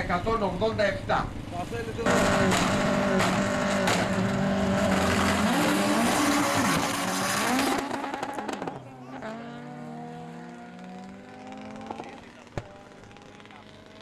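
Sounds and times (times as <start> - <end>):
drag racing engines revving: 0.0 - 14.0.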